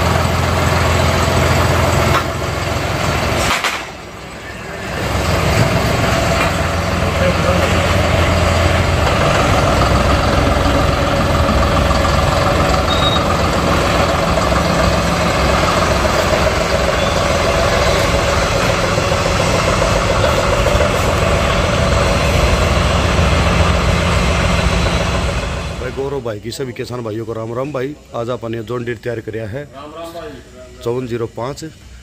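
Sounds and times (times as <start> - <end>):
tractor diesel engine running: 0.0 - 26.2.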